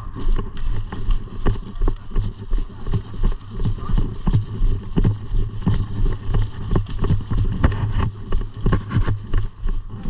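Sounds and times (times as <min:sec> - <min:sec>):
footsteps on woodland floor: 0:00.0 - 0:10.0
wind on microphone: 0:00.0 - 0:10.0.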